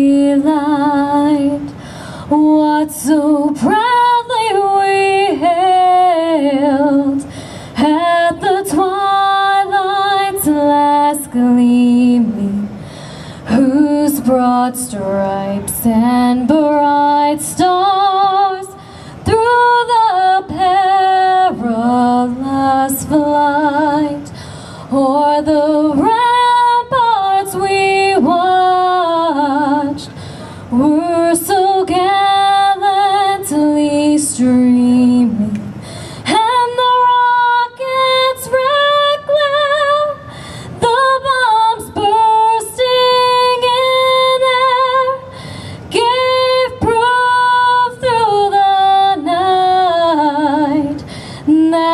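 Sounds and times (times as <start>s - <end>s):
woman singing unaccompanied: 0.0s - 12.8s, 13.4s - 51.9s.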